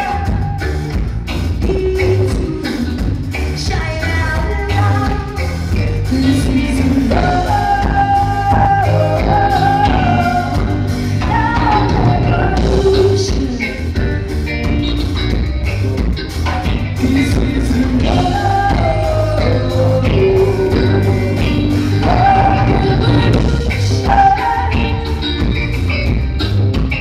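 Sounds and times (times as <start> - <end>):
woman singing: 0.0 - 14.3, 17.0 - 25.6
bass guitar: 0.0 - 27.0
drum kit beat: 0.0 - 27.0
electric guitar: 0.0 - 27.0.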